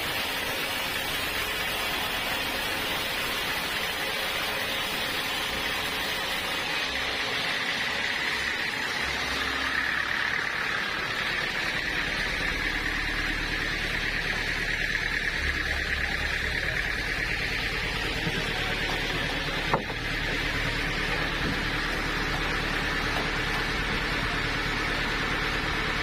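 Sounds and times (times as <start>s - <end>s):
sawmill saw cutting log: 0.0s - 26.0s.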